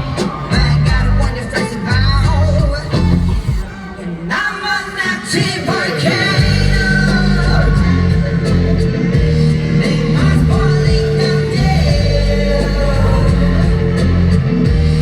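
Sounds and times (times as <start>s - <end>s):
live rock-pop music with singer: 0.0s - 15.0s.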